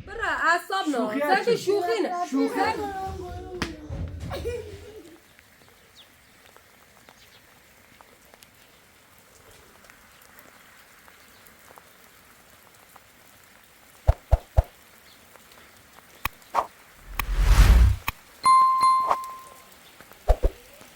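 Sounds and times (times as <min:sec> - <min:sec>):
rain falling: 0:02.0 - 0:20.9.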